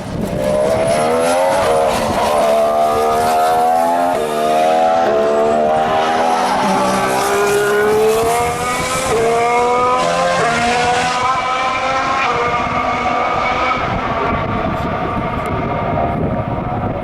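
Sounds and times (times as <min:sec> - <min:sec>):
racing car engine accelerating: 0:00.2 - 0:17.0.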